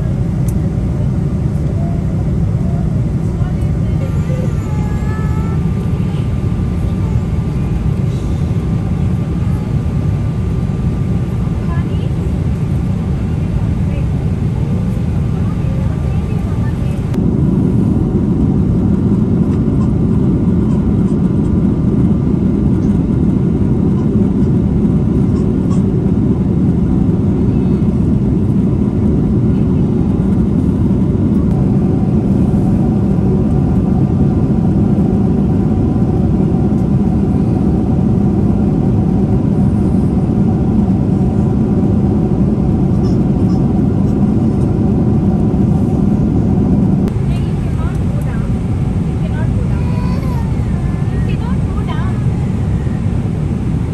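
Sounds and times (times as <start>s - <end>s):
airliner cabin engine roar: 0.0s - 53.9s.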